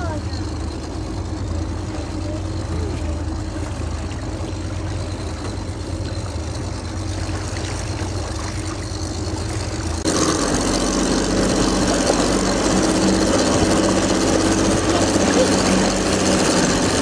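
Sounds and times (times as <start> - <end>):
outboard motor running: 0.0 - 17.0
water rushing: 0.0 - 17.0.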